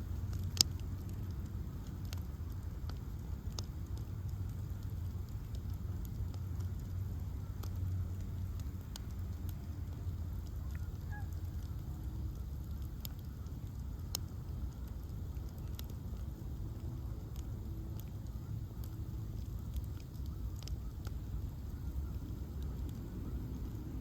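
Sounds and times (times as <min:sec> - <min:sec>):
fire crackling and popping: 0:00.0 - 0:24.0
flames rumbling: 0:00.0 - 0:24.0.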